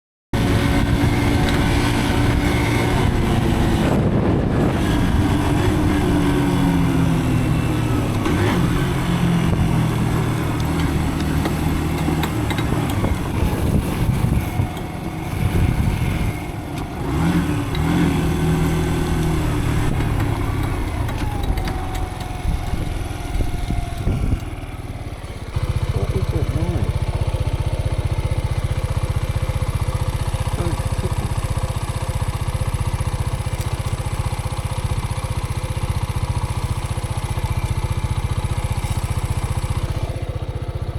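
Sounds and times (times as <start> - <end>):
dirt bike engine revving: 0.4 - 40.9.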